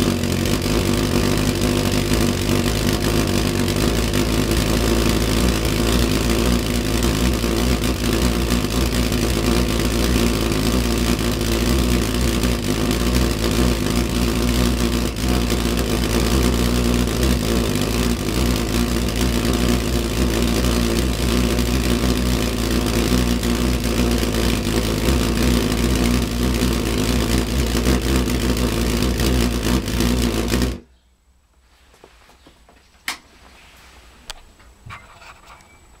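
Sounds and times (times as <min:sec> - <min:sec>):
pulse jet engine buzzing: 0:00.0 - 0:30.9.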